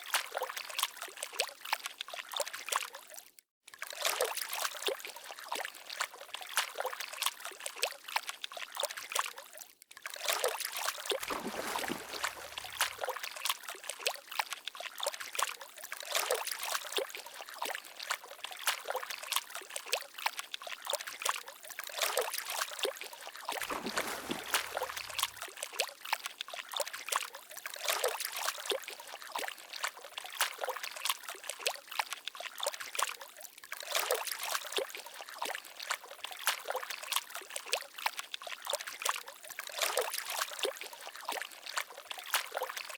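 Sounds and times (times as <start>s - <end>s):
water trickling and babbling: 0.0s - 42.9s.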